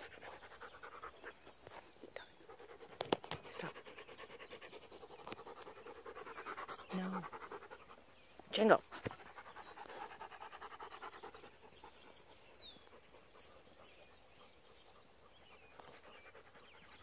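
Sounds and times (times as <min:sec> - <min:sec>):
rapid rhythmic panting: 0:00.0 - 0:08.2, 0:08.8 - 0:17.0.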